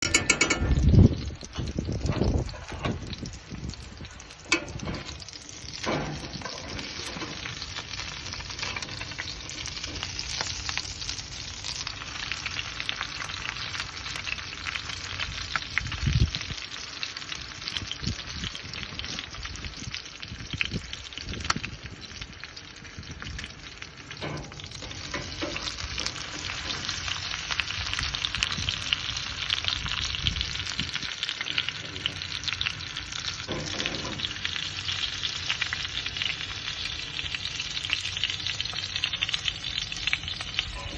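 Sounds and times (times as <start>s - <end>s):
steak sizzling: 0.0s - 40.9s.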